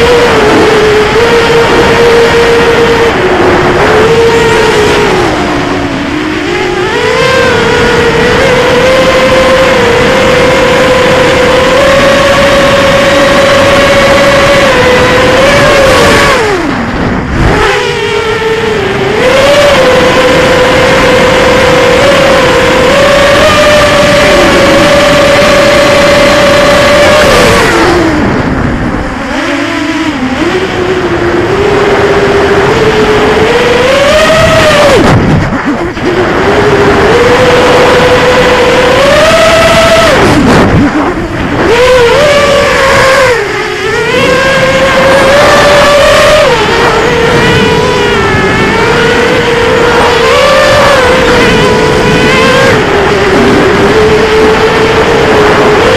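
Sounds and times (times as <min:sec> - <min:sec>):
drone motors whining: 0:00.0 - 0:55.9
rough rushing noise: 0:00.0 - 0:55.9
wind noise: 0:00.0 - 0:55.9.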